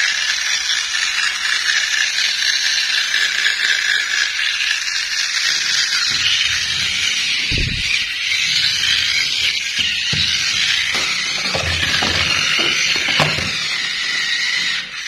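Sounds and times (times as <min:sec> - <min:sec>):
toy truck motor and gears whirring: 0:00.0 - 0:15.0.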